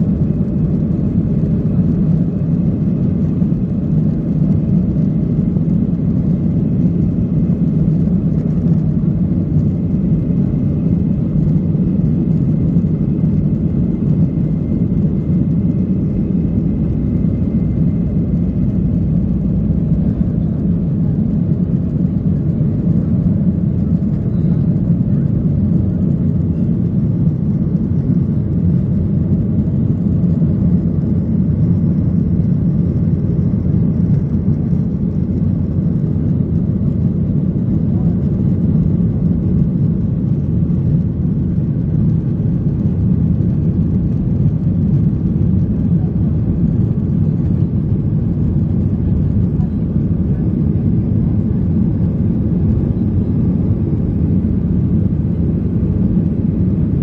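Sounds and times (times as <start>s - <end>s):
jet engines roaring at takeoff: 0.0s - 57.0s.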